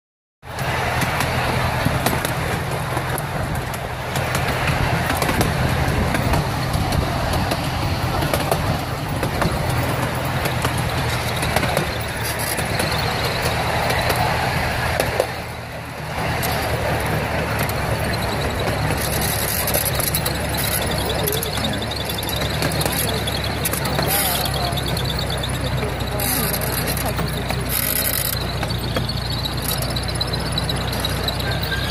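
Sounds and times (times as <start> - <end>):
train wheels rumbling on rails: 0.4 - 31.9
small clicks and clatters: 0.5 - 31.9.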